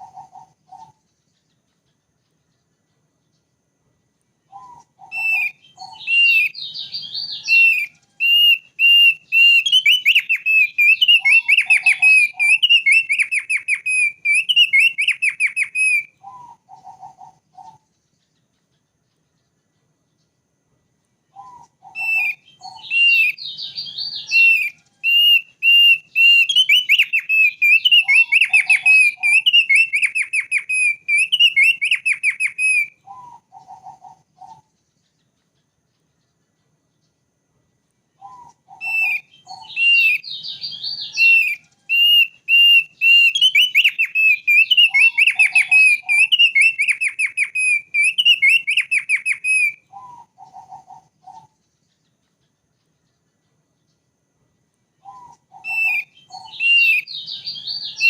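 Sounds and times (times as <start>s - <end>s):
bird singing whistled notes: 4.4s - 20.4s, 21.2s - 37.2s, 38.1s - 54.2s, 54.9s - 58.0s.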